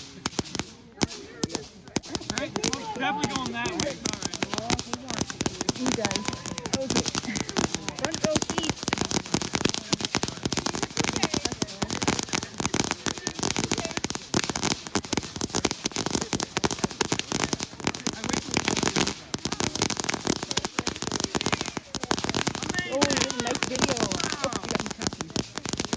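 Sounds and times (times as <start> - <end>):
fireworks crackling: 0.0 - 25.9.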